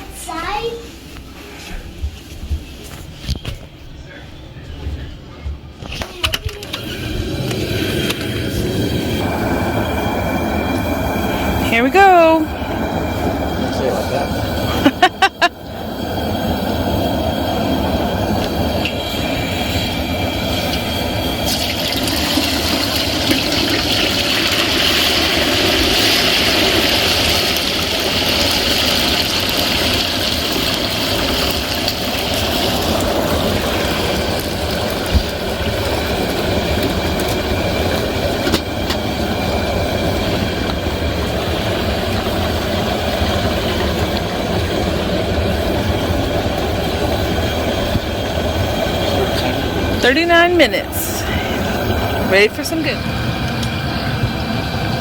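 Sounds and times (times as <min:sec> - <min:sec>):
propane burner roaring: 0:00.0 - 0:55.0
hot oil bubbling: 0:06.6 - 0:55.0
loud hissing: 0:06.7 - 0:55.0.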